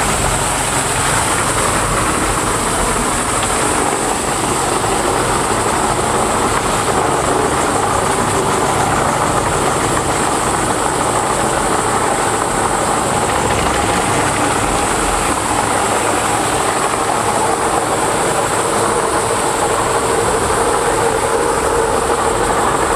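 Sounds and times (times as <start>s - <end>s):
wood chipper running: 0.0s - 22.9s.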